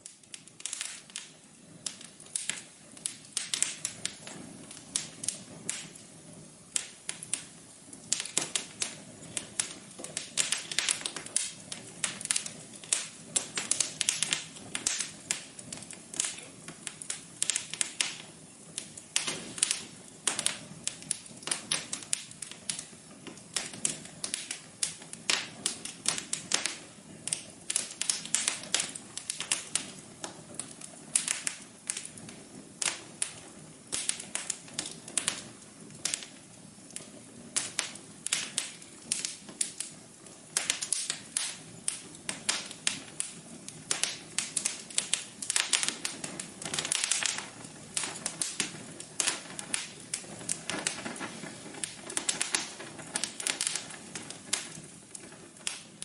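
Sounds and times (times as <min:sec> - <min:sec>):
low rush of flames: 0:00.0 - 0:56.0
wood fire crackling: 0:00.0 - 0:56.0.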